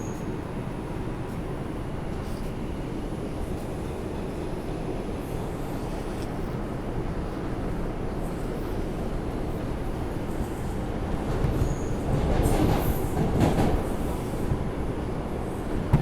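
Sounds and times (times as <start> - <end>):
subway car rumble and hiss: 0.0 - 16.0.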